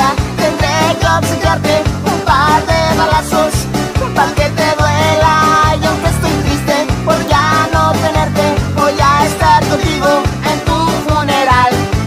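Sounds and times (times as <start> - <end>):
rock music bass and drums: 0.0 - 12.0.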